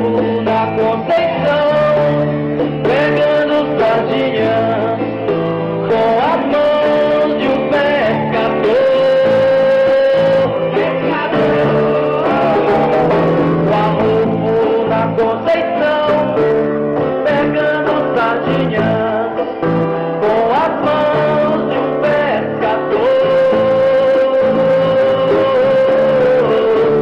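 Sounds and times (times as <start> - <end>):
man singing: 0.0 - 27.0
strummed acoustic guitar: 0.0 - 27.0.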